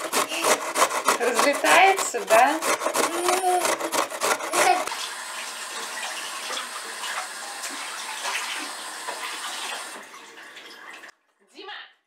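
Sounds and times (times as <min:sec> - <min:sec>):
tap running water: 0:00.6 - 0:11.1.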